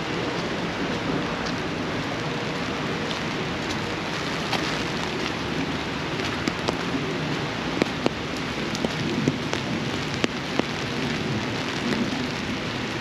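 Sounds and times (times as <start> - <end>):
rain on an umbrella: 0.0 - 13.0.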